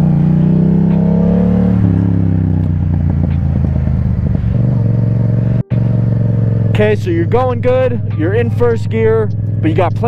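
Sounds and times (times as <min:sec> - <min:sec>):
motorcycle engine revving: 0:00.0 - 0:08.1, 0:08.7 - 0:10.0.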